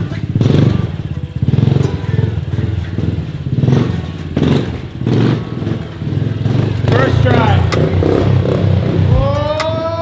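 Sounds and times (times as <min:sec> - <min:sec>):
motorbike engine revving: 0:00.0 - 0:10.0.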